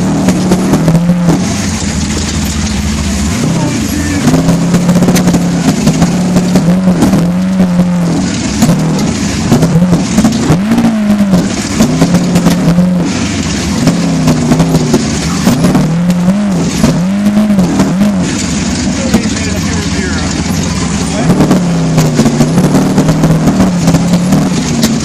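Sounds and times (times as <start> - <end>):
steady rushing noise: 0.0 - 25.0
truck engine revving: 0.0 - 25.0.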